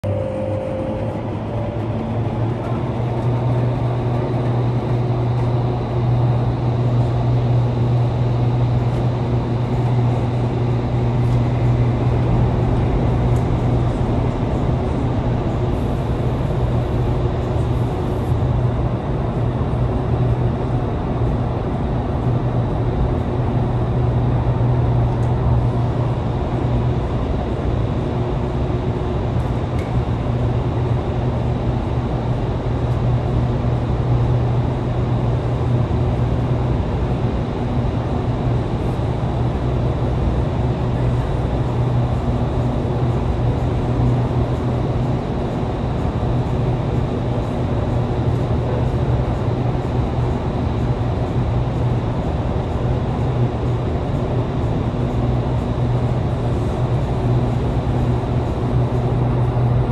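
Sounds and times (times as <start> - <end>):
strong low hum: 0.0 - 59.9
wind tunnel fans rushing air: 0.0 - 59.9.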